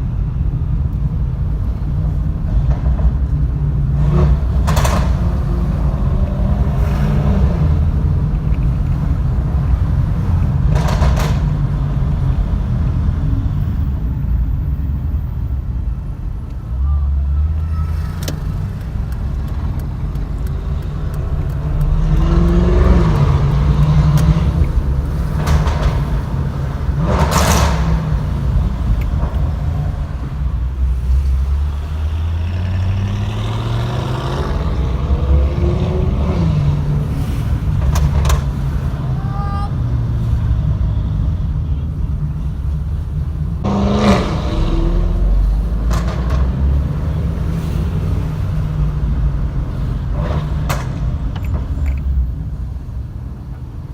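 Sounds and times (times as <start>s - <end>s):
exhaust cracks: 0.8s - 53.9s
car engine revving: 1.4s - 14.0s, 14.7s - 52.9s.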